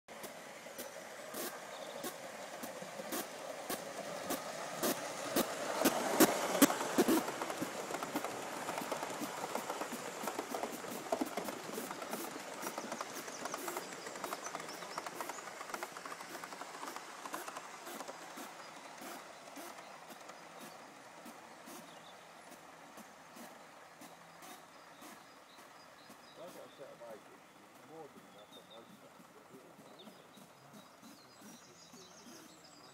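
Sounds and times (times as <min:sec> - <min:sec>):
model train wheels on rails: 0:00.1 - 0:32.9.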